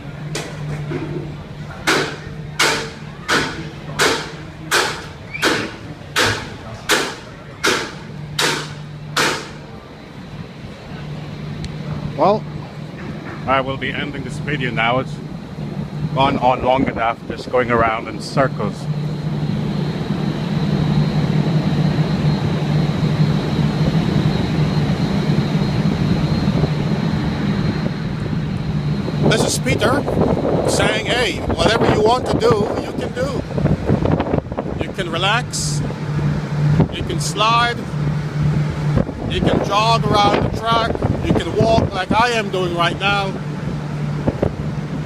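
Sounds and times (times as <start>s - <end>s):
ship machinery drone: 0.0s - 45.0s
steady low hum: 0.0s - 45.0s.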